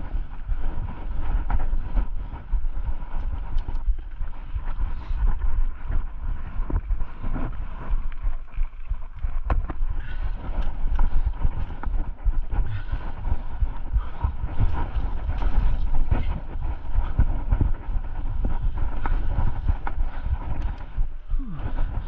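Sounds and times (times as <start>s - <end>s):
wind buffeting microphone: 0.0s - 22.0s
bike clicks and clatters: 0.1s - 21.8s.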